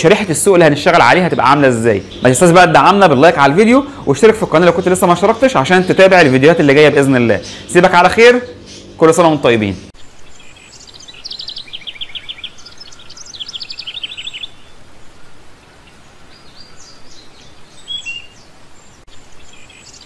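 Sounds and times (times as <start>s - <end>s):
faint steady hiss: 0.0s - 20.0s
small birds chirping: 0.0s - 20.0s.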